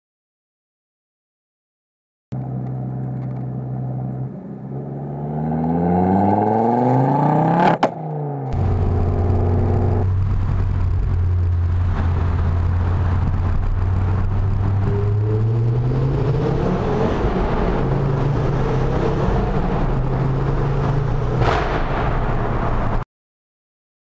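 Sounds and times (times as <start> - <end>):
road noise: 2.3 - 23.0
car exhaust idling and revving: 2.4 - 23.0
engine drone while driving: 2.4 - 23.0.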